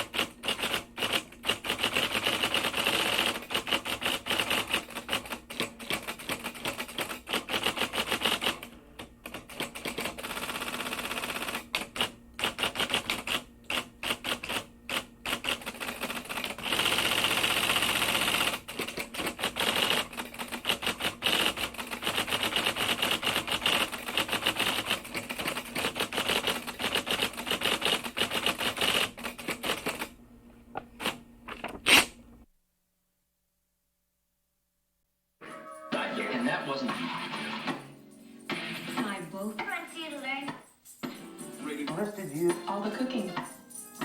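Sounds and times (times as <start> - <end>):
typewriter keys clacking: 0.0 - 30.1, 38.6 - 44.0.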